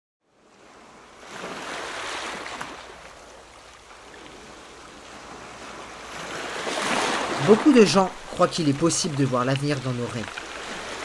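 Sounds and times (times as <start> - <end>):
ocean waves washing: 0.3 - 11.0.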